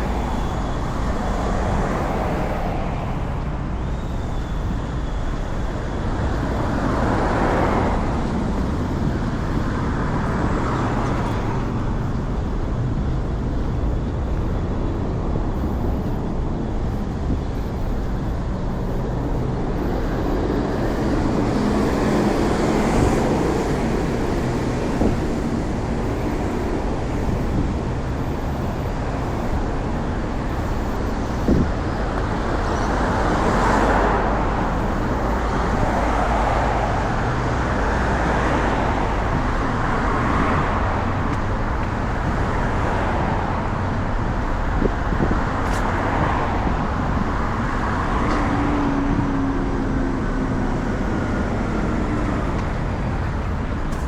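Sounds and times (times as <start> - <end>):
road traffic rumble: 0.0 - 54.0
vehicles passing close: 0.0 - 54.0.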